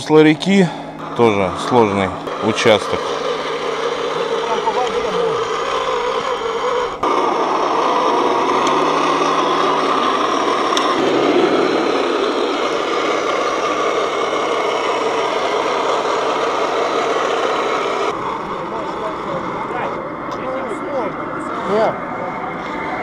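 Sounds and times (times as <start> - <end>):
model tank mechanical drone: 0.0 - 23.0.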